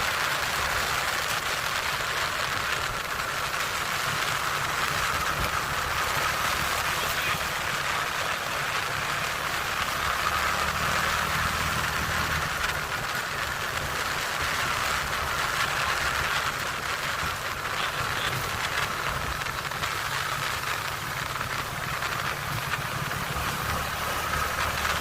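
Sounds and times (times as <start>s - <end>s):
atv engine running steadily: 0.0s - 25.0s
rushing noise: 0.0s - 25.0s.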